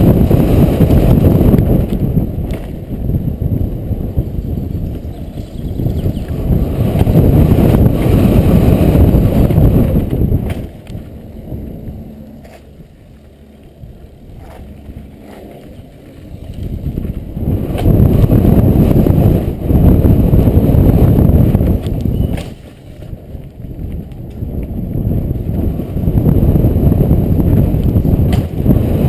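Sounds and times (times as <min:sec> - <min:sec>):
bike tyres rumbling over dirt: 0:00.0 - 0:29.0
wind buffeting microphone: 0:00.0 - 0:29.0.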